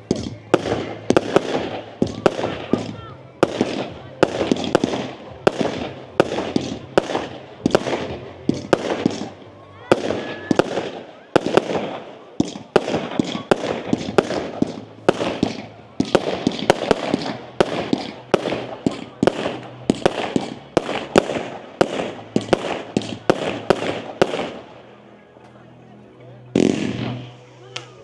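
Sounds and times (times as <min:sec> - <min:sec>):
fireworks bangs: 0:00.0 - 0:25.6, 0:26.5 - 0:28.0
fireworks crackling: 0:00.0 - 0:28.0.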